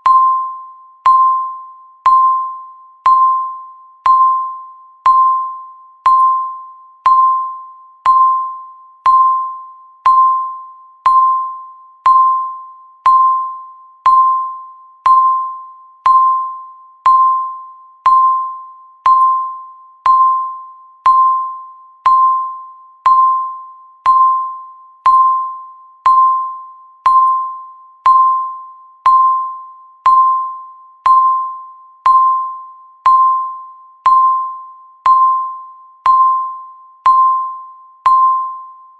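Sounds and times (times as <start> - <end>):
bell-like ding: 0.0 - 38.9.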